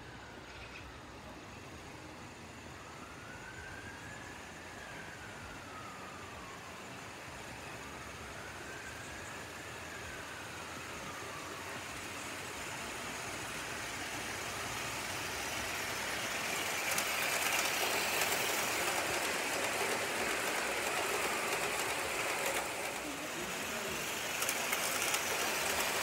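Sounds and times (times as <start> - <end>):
model train rolling whirr: 0.0 - 26.0.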